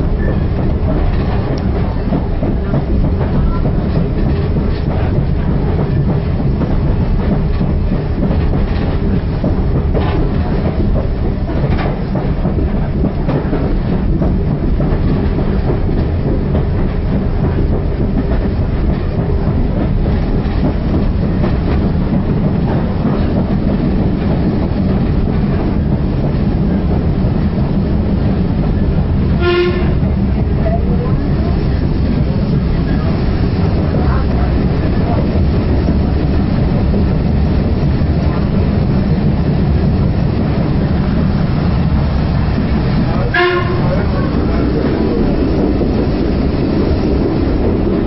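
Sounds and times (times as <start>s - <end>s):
train wheels rumbling on rails: 0.0s - 48.0s
wheels clicking over rail joints: 0.0s - 48.0s.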